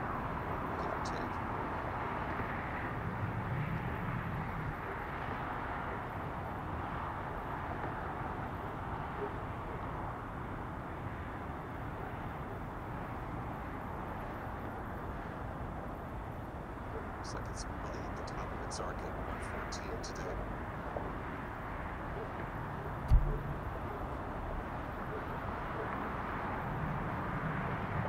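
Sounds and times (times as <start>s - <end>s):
outdoor hiss and hum: 0.0s - 28.0s.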